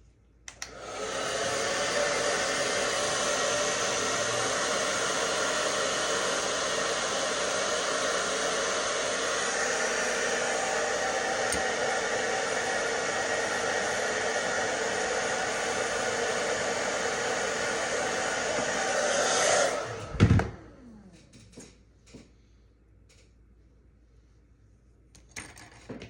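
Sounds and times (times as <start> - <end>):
hair dryer blowing: 0.5 - 21.5.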